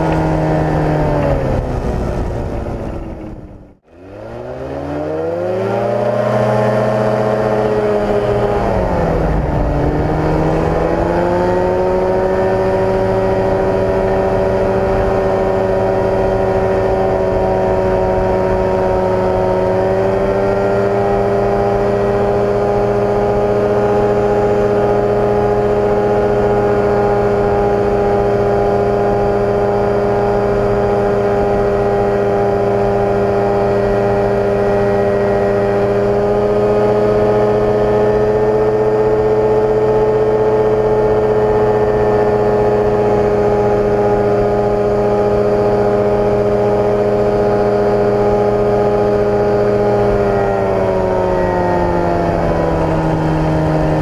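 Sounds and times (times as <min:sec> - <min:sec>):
microlight engine at high power: 0:00.0 - 0:54.0.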